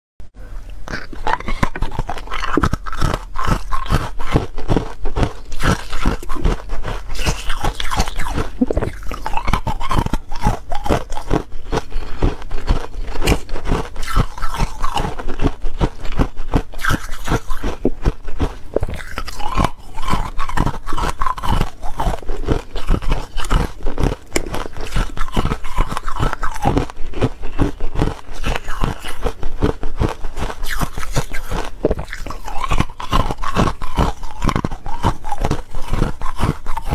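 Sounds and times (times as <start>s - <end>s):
person crunching ice: 0.9s - 36.9s.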